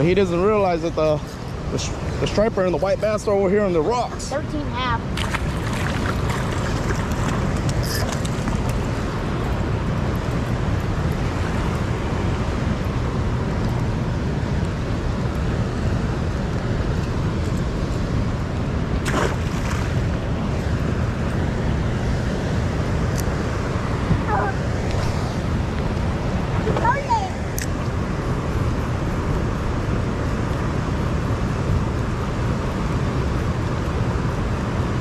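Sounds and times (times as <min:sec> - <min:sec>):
water noise: 0:00.0 - 0:35.0
wind buffeting microphone: 0:00.0 - 0:35.0.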